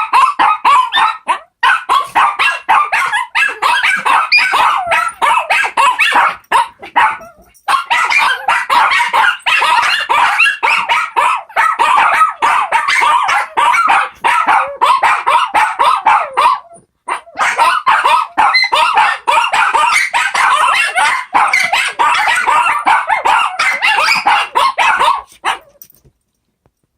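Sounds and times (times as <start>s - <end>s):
dogs yipping and howling: 0.0s - 25.9s.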